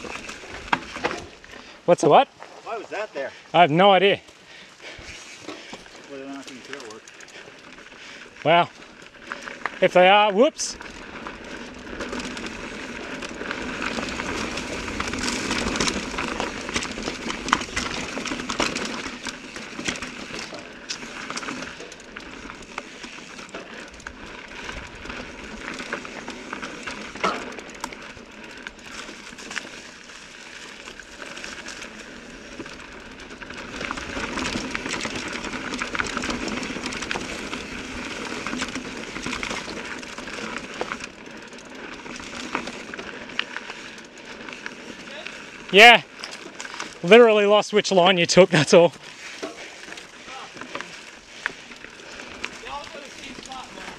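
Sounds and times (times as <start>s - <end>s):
mountain bike rattling over rocks: 0.0s - 53.9s.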